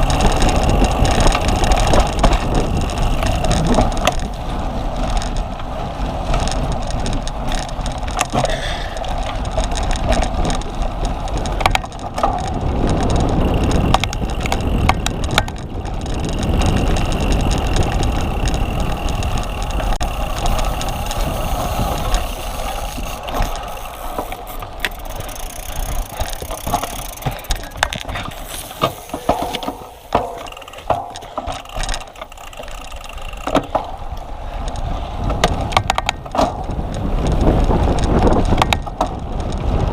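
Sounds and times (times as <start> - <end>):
bike chain and frame rattling: 0.0 - 39.9.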